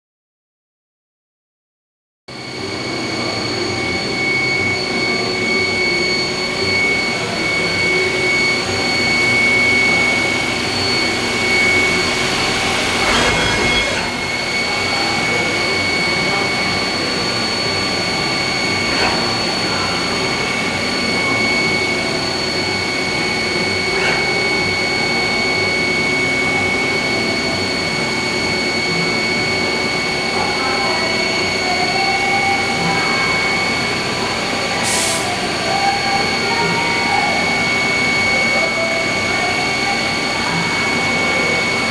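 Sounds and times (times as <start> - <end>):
lathe high whine: 2.3 - 41.9
machinery hum: 2.5 - 41.9.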